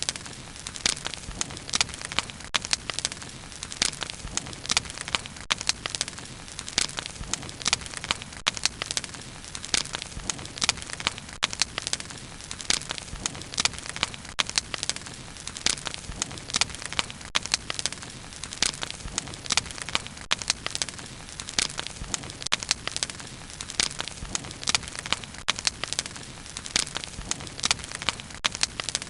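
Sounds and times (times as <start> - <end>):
bonfire popping and crackling: 0.0 - 29.0.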